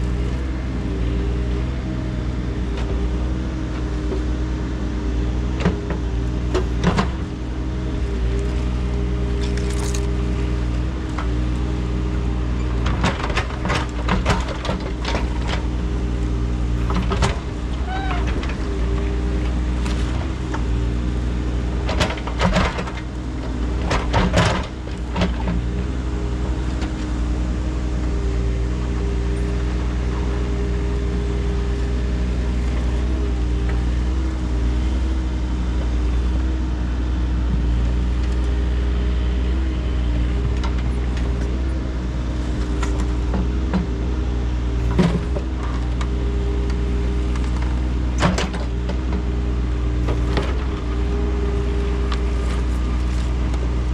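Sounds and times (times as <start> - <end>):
digging machine engine running: 0.0 - 53.9.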